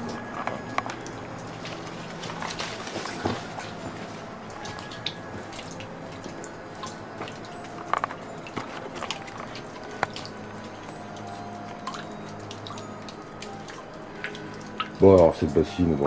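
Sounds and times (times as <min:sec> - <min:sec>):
water drops plinking into basin: 0:00.0 - 0:16.0.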